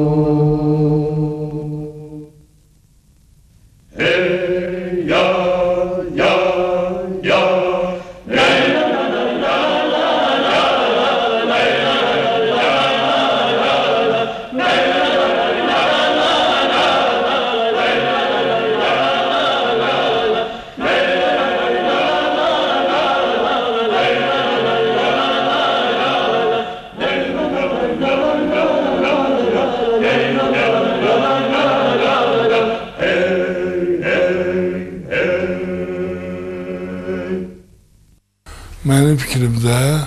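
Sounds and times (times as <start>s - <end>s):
choir singing: 0.0s - 2.3s, 3.9s - 37.6s.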